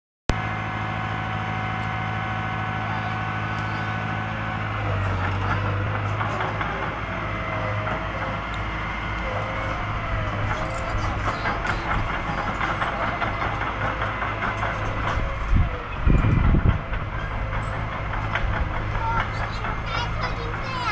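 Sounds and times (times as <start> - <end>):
bulldozer diesel engine droning: 0.3 - 20.9.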